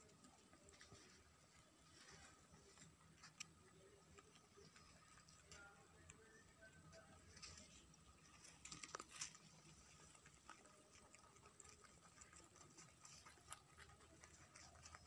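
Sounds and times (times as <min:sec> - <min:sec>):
rabbits chewing leaves: 0:00.0 - 0:15.0.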